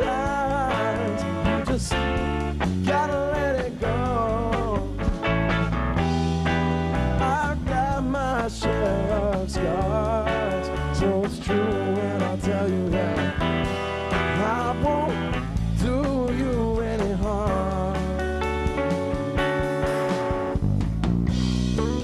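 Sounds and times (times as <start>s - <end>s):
live band playing rock: 0.0s - 22.0s.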